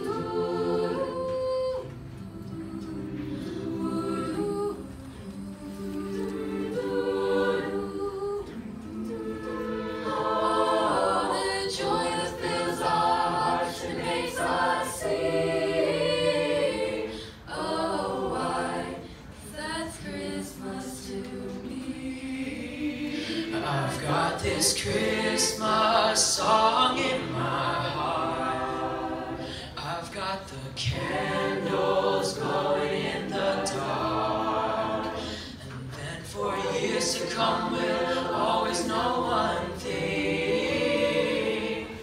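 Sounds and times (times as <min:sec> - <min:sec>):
choir singing a cappella: 0:00.0 - 0:42.0.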